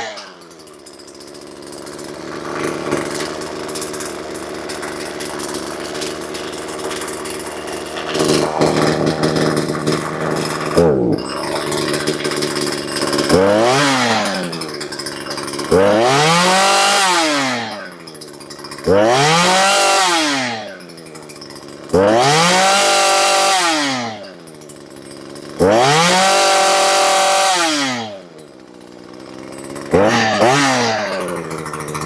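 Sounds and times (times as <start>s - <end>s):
chainsaw engine revving: 0.0s - 32.0s.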